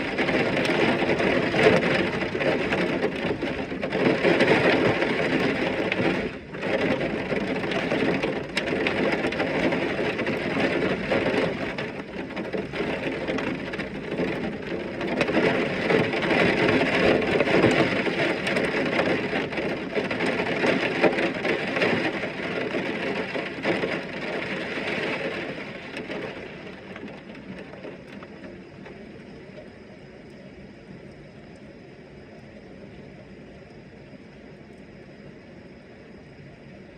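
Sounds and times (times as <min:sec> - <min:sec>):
heavy rain falling: 0:00.0 - 0:29.6.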